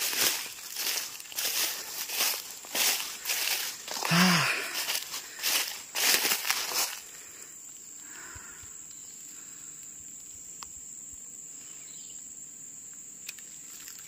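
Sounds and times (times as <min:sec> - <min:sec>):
high-pitched insect drone: 0:00.0 - 0:12.5.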